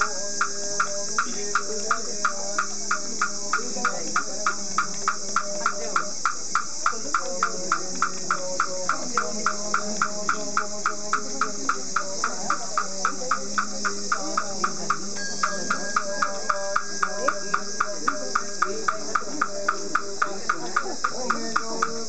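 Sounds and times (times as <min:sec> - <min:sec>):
group chanting: 0:00.0 - 0:22.0
wooden fish drum strikes: 0:00.0 - 0:22.0.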